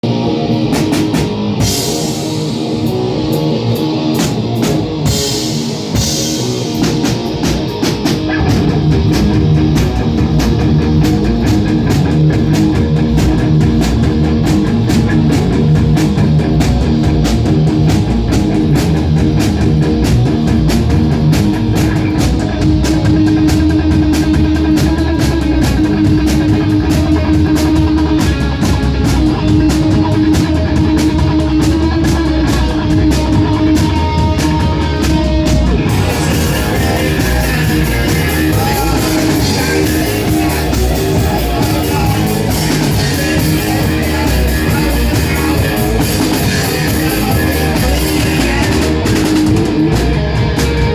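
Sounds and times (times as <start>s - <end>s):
bass guitar: 0.0s - 50.9s
drum kit: 0.0s - 50.9s
electric guitar: 0.0s - 50.9s.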